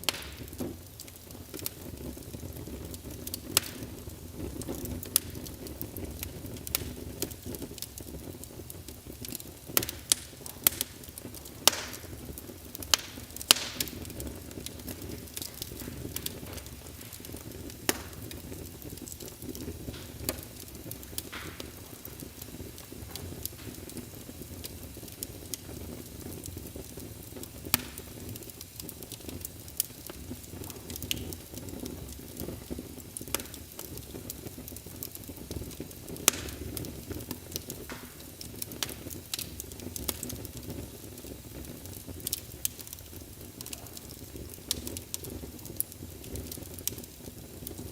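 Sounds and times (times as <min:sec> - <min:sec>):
crackles and pops of fire: 0:00.0 - 0:47.9
wood fire burning: 0:00.0 - 0:47.9.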